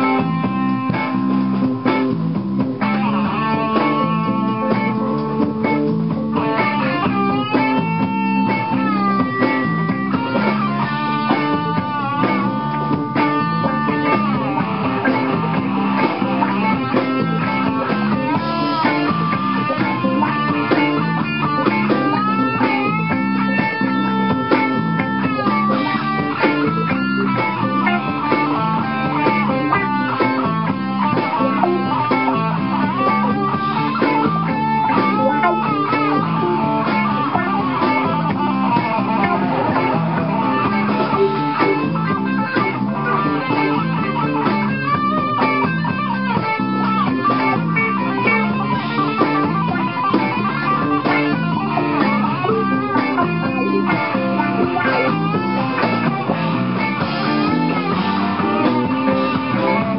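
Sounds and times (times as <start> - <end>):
electric guitar: 0.0 - 59.9
live band jamming: 0.0 - 59.9.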